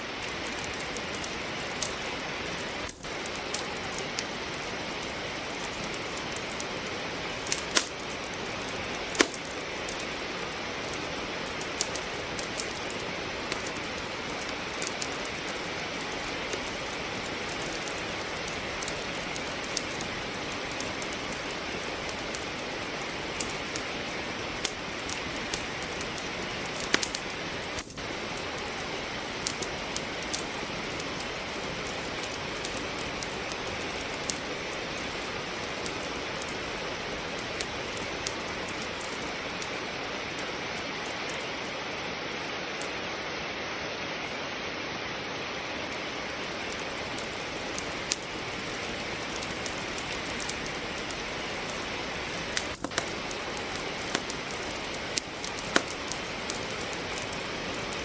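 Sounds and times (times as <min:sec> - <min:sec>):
rain hiss: 0:00.0 - 0:58.0
wood fire crackling: 0:00.0 - 0:58.0.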